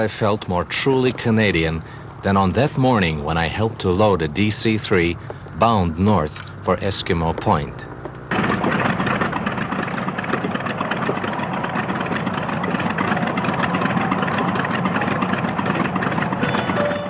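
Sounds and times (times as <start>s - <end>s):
piston aircraft engines running: 0.0s - 17.0s.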